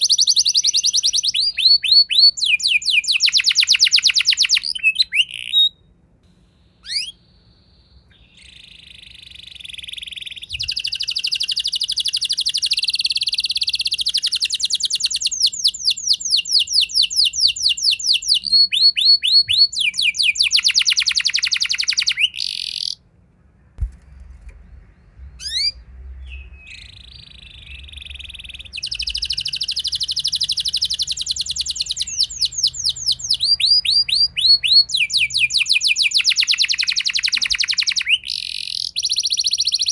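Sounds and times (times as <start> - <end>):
canary singing trills: 0.0 - 23.0, 24.6 - 39.9.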